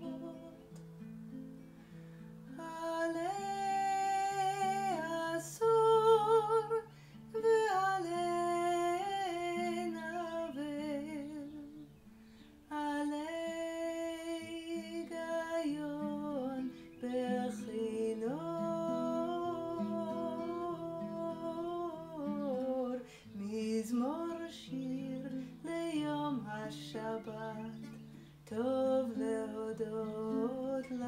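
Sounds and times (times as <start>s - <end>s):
woman singing wordless melody: 0.0s - 0.9s, 2.4s - 31.0s
acoustic guitar chords: 0.0s - 31.0s.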